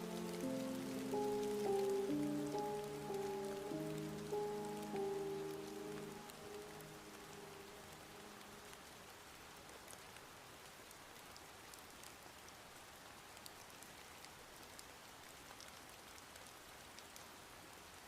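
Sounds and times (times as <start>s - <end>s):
faint rain hiss: 0.0s - 18.0s
rain drops ticking: 0.0s - 18.0s.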